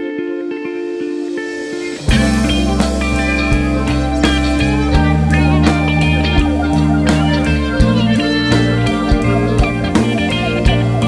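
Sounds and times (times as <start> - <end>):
music with plucked notes: 0.0 - 11.0.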